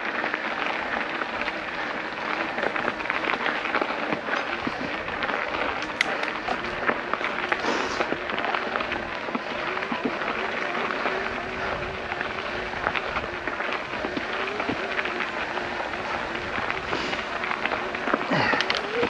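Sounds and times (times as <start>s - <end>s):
steady noisy rush: 0.0s - 19.0s
tyres crunching over rough ground: 0.0s - 19.0s
bike clicks and rattles: 0.2s - 19.0s.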